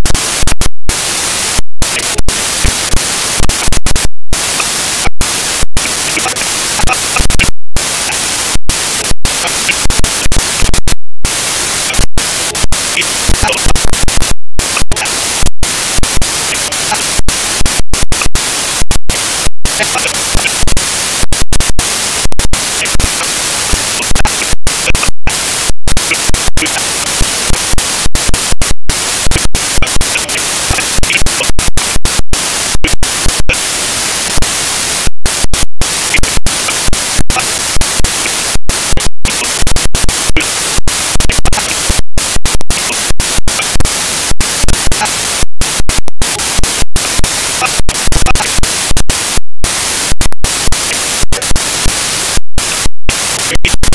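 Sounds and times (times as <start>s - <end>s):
harsh static hiss: 0.0s - 53.9s.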